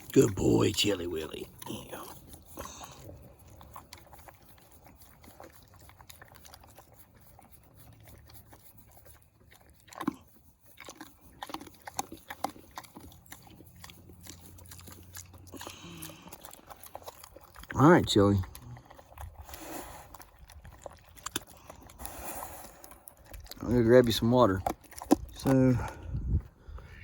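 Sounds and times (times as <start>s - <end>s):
pig chewing and smacking: 0.0s - 27.0s.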